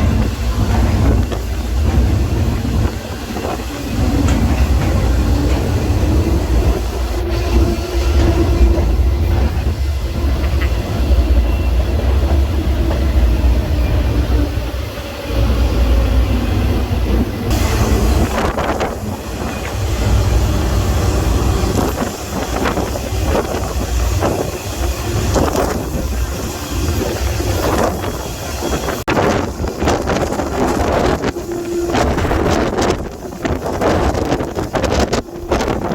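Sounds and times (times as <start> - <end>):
train cars clanking and rattling: 0.0 - 35.9
train wheels rumbling on rail: 0.0 - 35.9.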